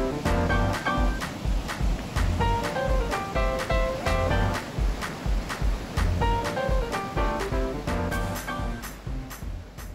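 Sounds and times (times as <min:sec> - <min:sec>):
melody over steady beat: 0:00.0 - 0:09.9.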